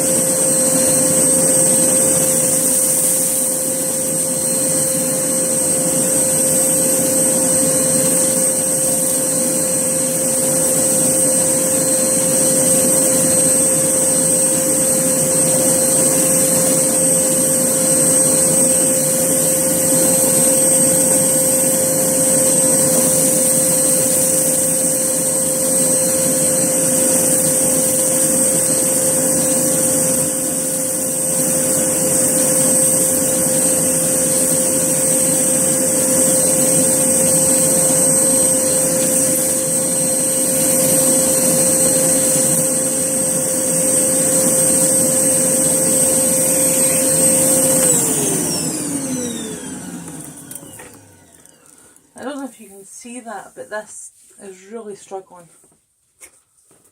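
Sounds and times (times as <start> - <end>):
vacuum cleaner running: 0.0 - 54.3.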